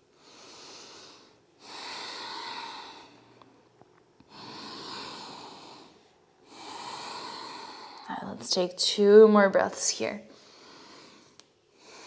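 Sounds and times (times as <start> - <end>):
woman breathing deeply: 0.0 - 8.1, 10.3 - 12.0.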